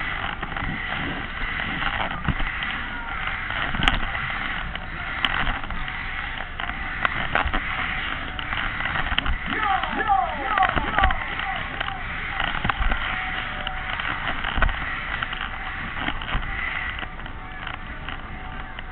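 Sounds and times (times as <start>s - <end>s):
funfair ride rushing: 0.0s - 18.9s
sharp clicks: 0.0s - 18.9s.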